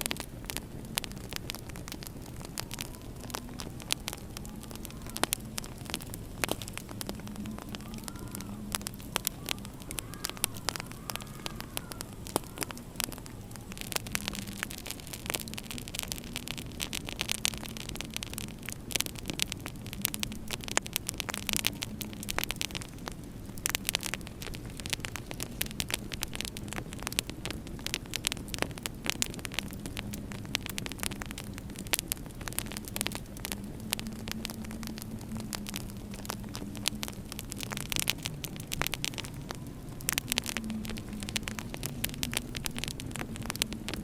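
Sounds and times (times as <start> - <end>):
low steady hum: 0.0 - 44.0
wood fire pops and snaps: 0.0 - 44.0.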